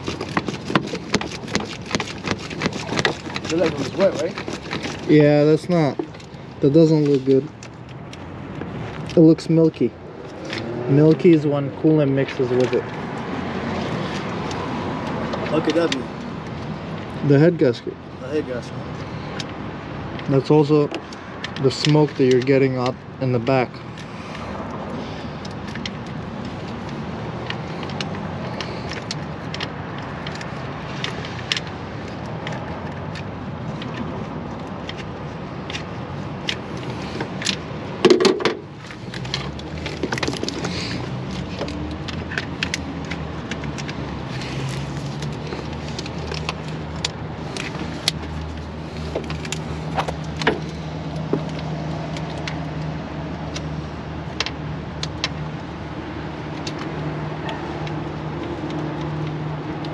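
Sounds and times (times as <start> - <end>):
sharp clicks and knocks: 0.0 - 16.8, 19.3 - 59.9.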